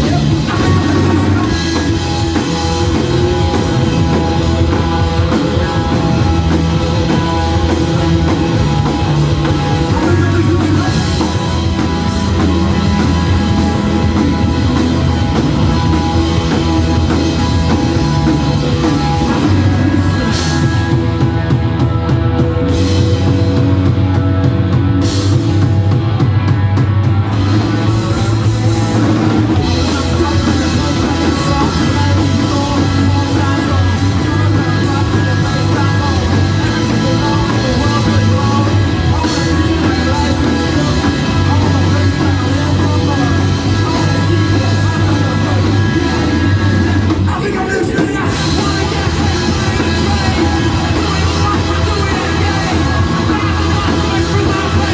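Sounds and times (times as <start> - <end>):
drum kit with cymbals: 0.0 - 54.9
heavy bass line: 0.0 - 54.9
rock band playing live: 0.0 - 54.9.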